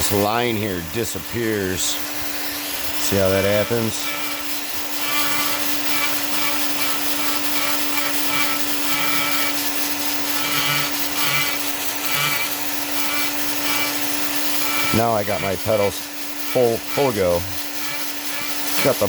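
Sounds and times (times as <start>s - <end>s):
rotary tool grinding wood: 0.0s - 19.0s.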